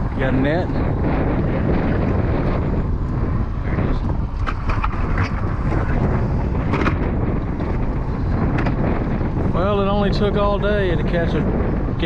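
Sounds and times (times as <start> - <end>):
steady low rumble: 0.0 - 12.0
wind buffeting microphone: 0.0 - 12.0.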